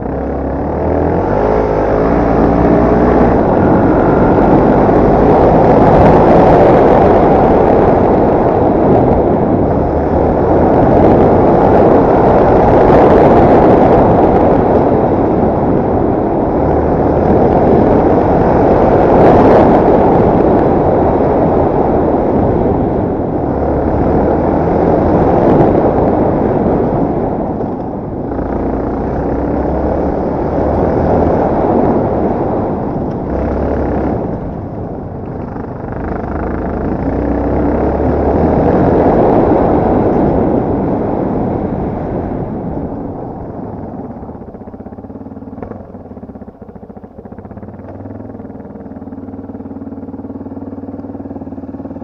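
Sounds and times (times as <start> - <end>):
motorcycle engine running: 0.0 - 52.0
wind rumble on microphone: 0.0 - 52.0.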